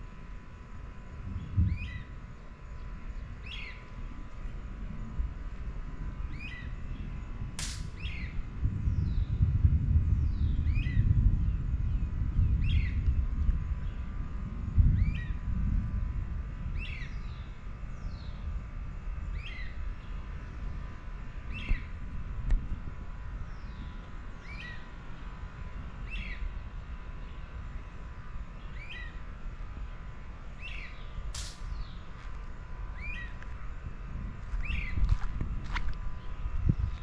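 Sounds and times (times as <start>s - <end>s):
continuous low rumble: 0.0s - 37.0s.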